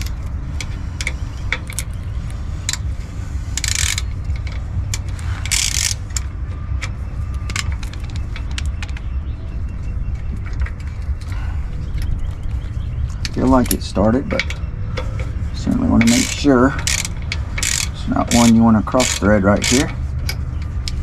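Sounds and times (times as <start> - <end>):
hand ratchet clicking: 0.0 - 9.1, 13.1 - 21.0
low rumble: 0.0 - 21.0.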